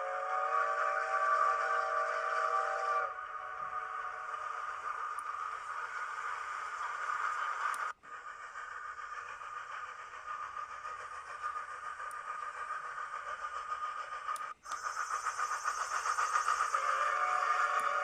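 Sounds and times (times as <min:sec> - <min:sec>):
train sound effects through small speaker: 0:00.0 - 0:18.0.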